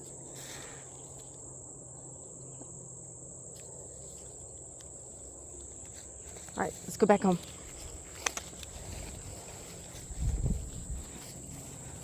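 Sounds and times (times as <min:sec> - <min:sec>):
insect chorus droning: 0:00.0 - 0:12.0.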